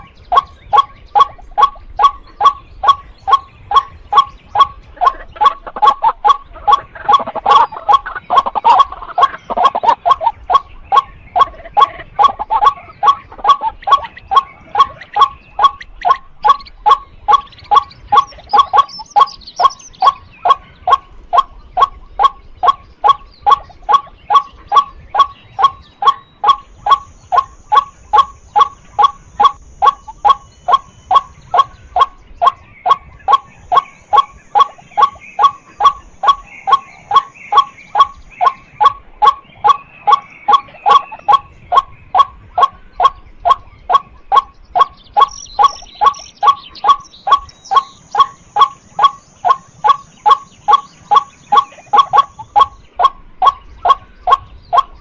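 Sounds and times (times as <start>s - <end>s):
waterhen calling: 0.0s - 55.0s.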